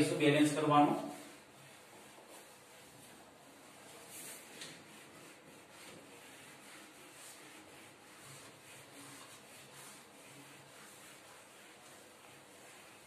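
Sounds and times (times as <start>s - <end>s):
eraser wiping whiteboard: 0.0s - 13.0s.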